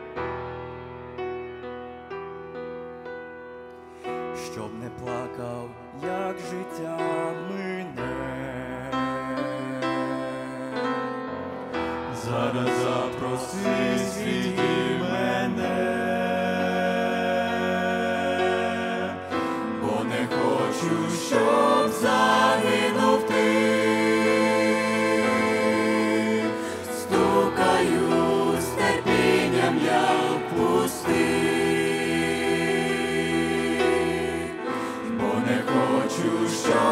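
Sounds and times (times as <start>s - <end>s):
vocal group singing gospel: 5.4s - 36.9s.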